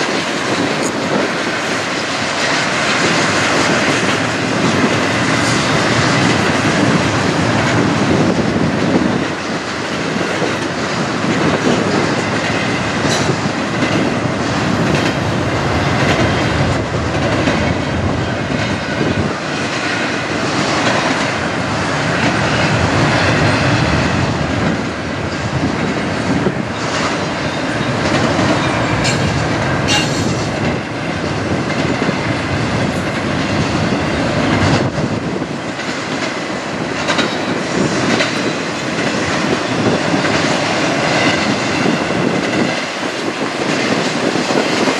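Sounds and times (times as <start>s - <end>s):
train wheels rumbling on rail: 0.0s - 44.9s
wheels clacking over rail joints: 0.0s - 44.9s.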